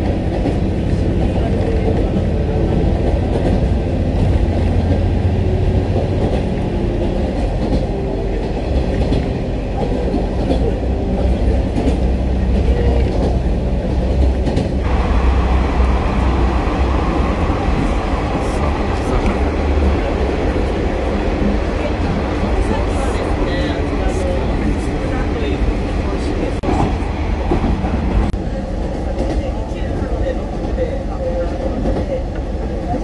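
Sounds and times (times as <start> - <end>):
railcar engine drone and rumble: 0.0 - 33.0.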